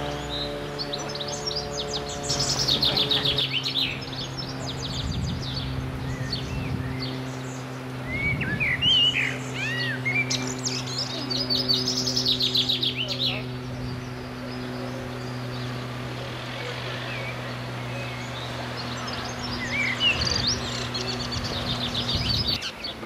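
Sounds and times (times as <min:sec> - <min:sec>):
songbirds singing: 0:00.0 - 0:23.0
steady low hum: 0:00.0 - 0:23.0.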